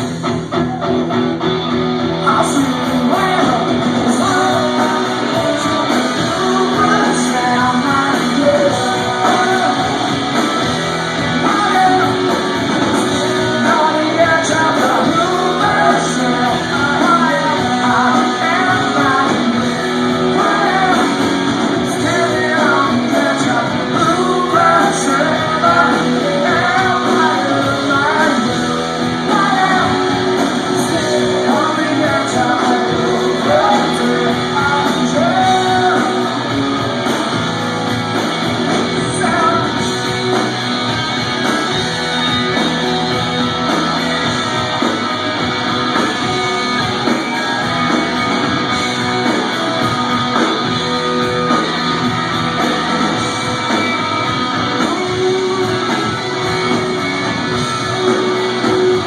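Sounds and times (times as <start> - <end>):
live rock band: 0.0 - 59.0
person singing: 2.2 - 37.4, 38.8 - 40.7, 41.5 - 59.0.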